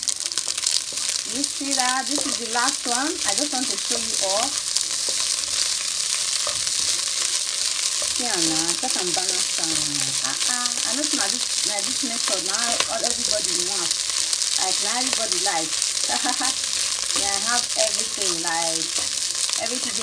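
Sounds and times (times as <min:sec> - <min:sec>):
rice frying in a pan: 0:00.0 - 0:20.0
wooden spatula stirring: 0:00.1 - 0:20.0.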